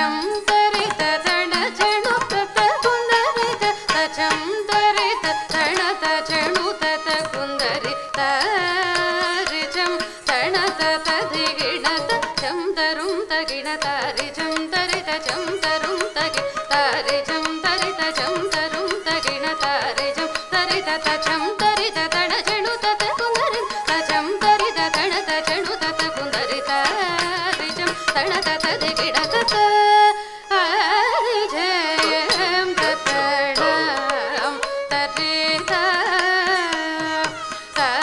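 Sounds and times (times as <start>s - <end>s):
percussion strokes: 0.0s - 30.5s, 31.2s - 38.0s.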